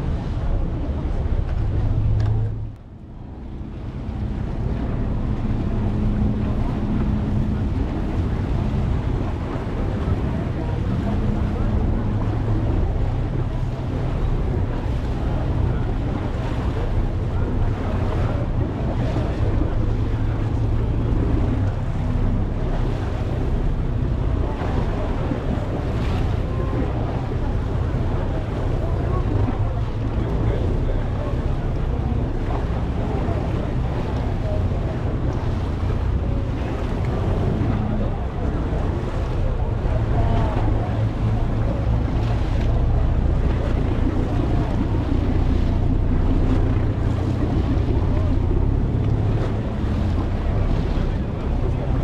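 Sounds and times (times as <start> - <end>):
motorboat engine humming: 0.0 - 52.0
water washing past hull: 0.0 - 52.0
wind on microphone: 0.0 - 52.0.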